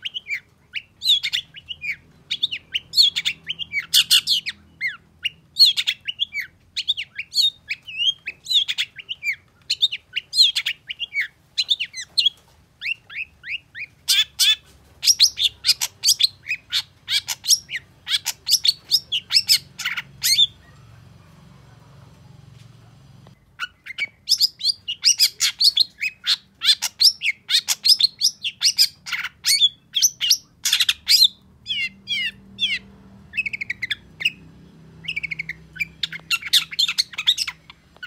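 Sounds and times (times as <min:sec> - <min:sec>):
bird singing and chattering: 0:00.0 - 0:20.8, 0:23.4 - 0:38.0.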